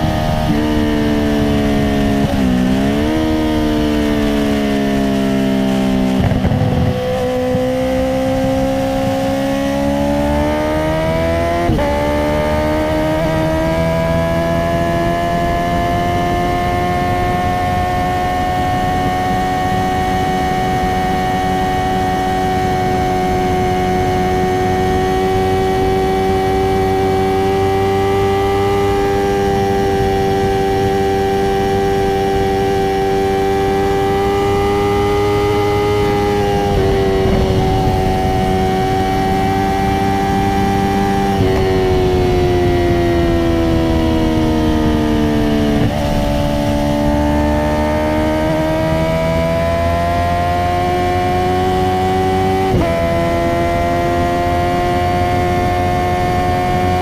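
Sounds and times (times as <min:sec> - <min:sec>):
motorcycle engine at steady revs: 0:00.0 - 0:57.0.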